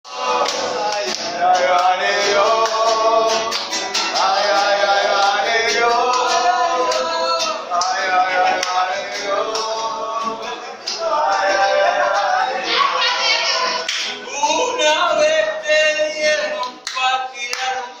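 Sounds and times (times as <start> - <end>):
men singing together: 0.1 - 18.0
strummed acoustic guitars: 0.1 - 18.0.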